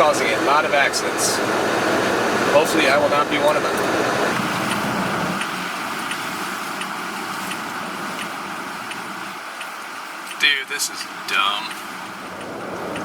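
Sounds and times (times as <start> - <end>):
road and tyre noise in car: 0.0 - 13.0.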